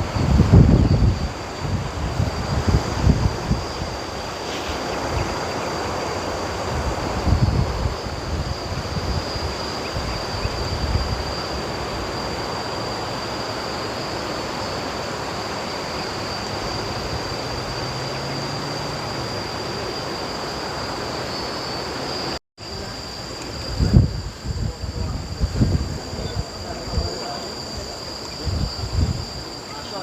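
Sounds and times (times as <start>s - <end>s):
wind buffeting microphone: 0.0s - 18.4s, 22.7s - 29.6s
insects droning: 0.0s - 30.0s.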